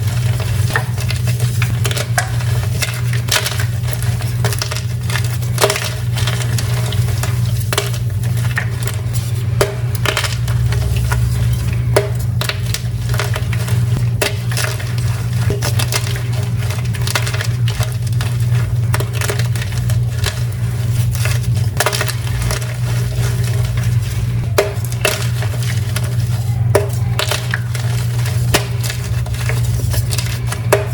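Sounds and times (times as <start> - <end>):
chalk crunching and crumbling: 0.0 - 30.9
steady low hum: 0.0 - 30.9.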